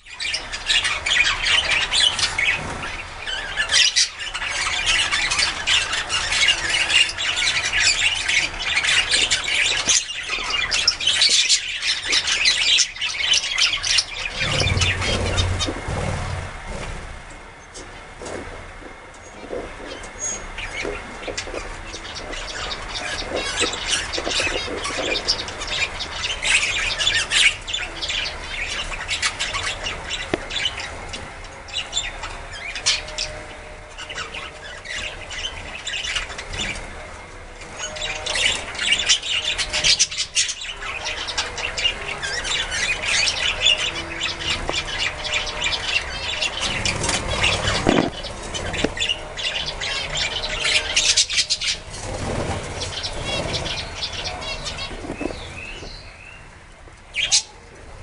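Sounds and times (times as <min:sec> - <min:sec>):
budgerigars chattering: 0:00.1 - 0:16.8, 0:18.4 - 0:56.5, 0:57.1 - 0:57.6.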